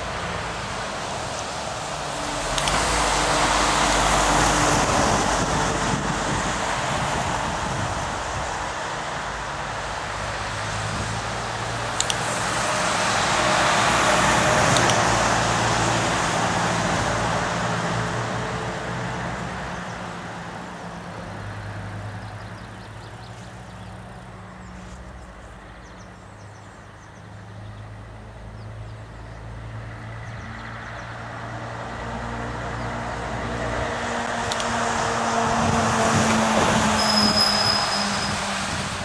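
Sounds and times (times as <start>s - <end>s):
vehicle passing: 0.0s - 25.8s, 27.6s - 39.0s.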